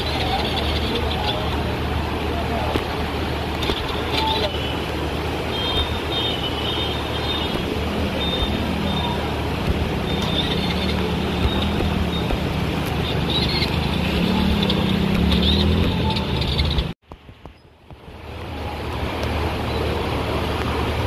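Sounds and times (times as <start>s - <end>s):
floodwater rushing: 0.0s - 17.0s, 17.8s - 21.0s
rain: 0.0s - 21.0s.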